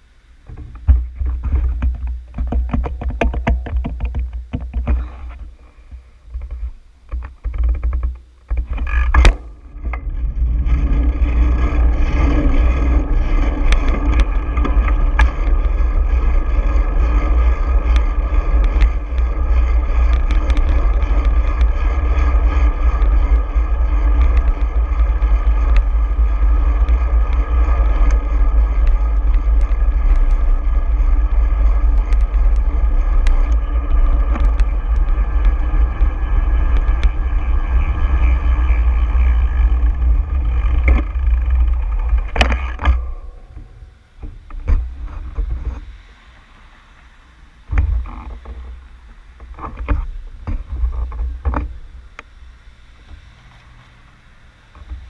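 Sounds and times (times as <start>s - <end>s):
road and traffic noise: 0.0s - 55.0s
wind buffeting microphone: 0.4s - 55.0s.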